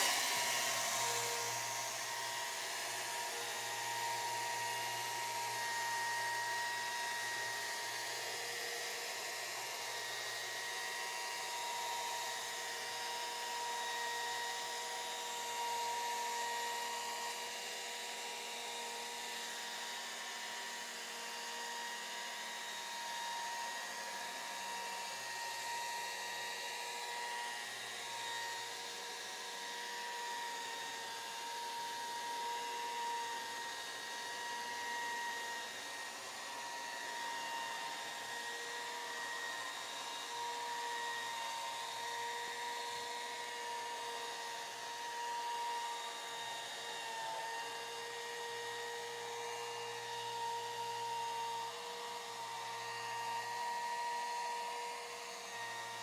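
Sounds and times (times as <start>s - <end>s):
electric chainsaw cutting log: 0.0s - 56.0s.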